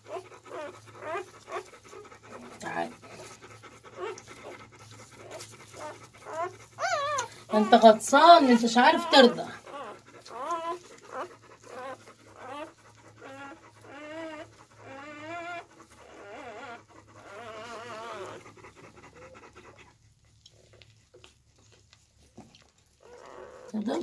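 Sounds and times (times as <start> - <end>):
puppies crying: 0.0 - 19.8, 22.9 - 24.0.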